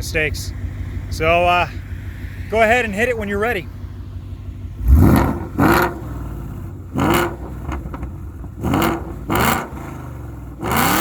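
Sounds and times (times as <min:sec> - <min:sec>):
car engine revving and idling: 0:00.0 - 0:11.0.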